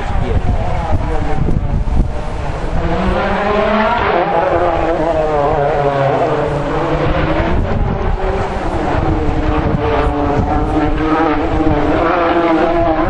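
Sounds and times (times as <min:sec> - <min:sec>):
distant rally car engine revving: 0:00.0 - 0:13.0.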